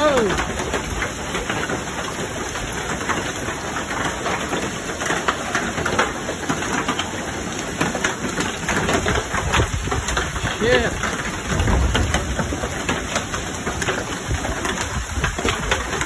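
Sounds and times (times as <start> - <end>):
hailstones striking wooden deck: 0.0 - 16.0
heavy rain hissing: 0.0 - 16.0.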